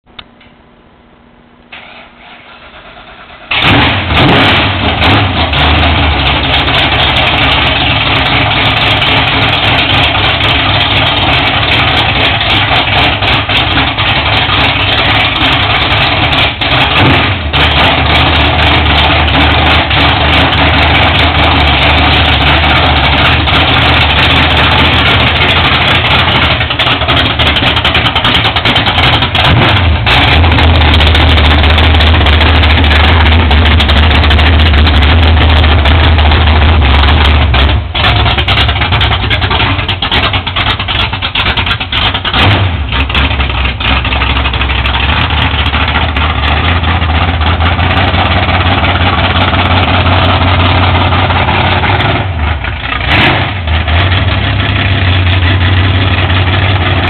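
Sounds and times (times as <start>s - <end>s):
engine starting and idling: 1.7s - 57.0s.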